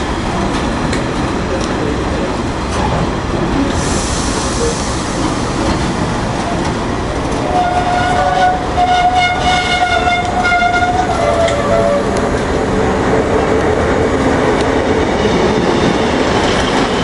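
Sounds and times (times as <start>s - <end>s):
train wagons rumbling on rails: 0.0s - 17.0s.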